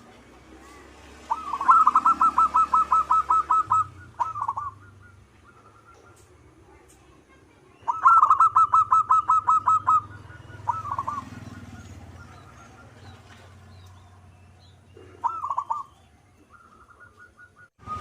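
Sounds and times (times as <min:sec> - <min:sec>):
doves cooing: 0:00.7 - 0:06.9, 0:07.8 - 0:18.0.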